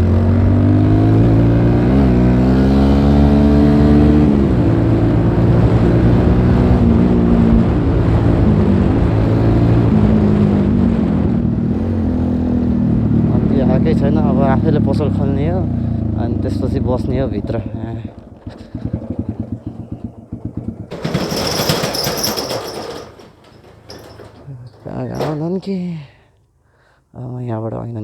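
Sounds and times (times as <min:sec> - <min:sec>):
motorcycle engine accelerating: 0:00.0 - 0:25.4.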